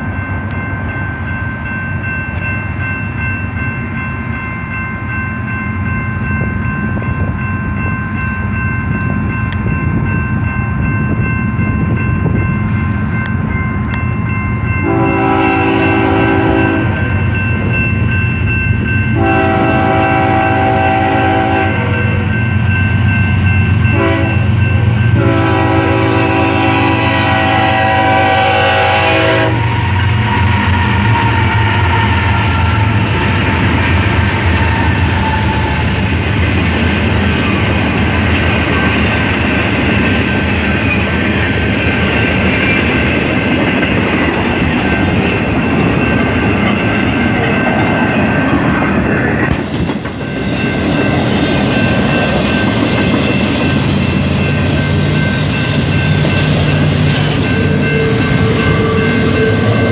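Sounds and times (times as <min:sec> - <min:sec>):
freight train wheels rolling: 0:05.4 - 0:59.9.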